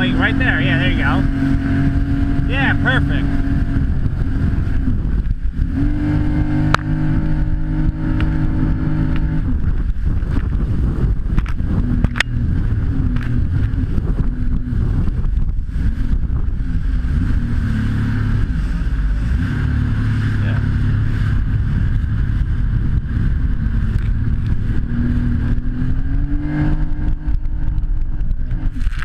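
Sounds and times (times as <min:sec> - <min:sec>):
jet ski engine droning: 0:00.0 - 0:29.0.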